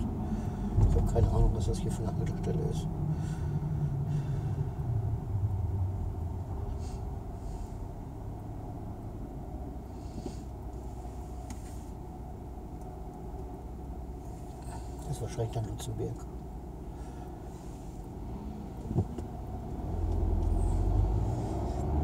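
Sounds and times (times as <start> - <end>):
car engine rumble: 0.0 - 22.0
road noise inside car: 0.0 - 22.0.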